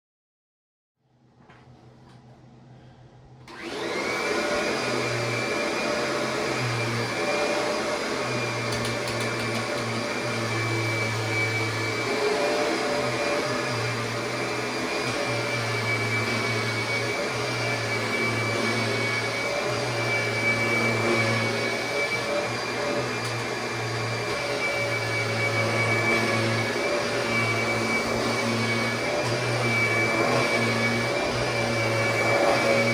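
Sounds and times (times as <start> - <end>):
vacuum cleaner whine: 3.4 - 32.9.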